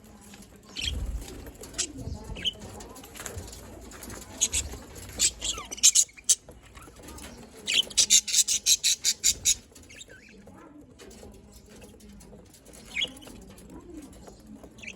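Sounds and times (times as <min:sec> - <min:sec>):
budgerigars chirping and chattering: 0:00.7 - 0:14.9.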